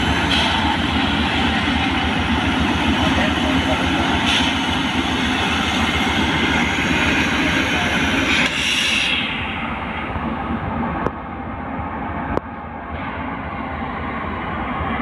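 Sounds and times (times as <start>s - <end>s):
railway vehicles rushing: 0.0s - 15.0s.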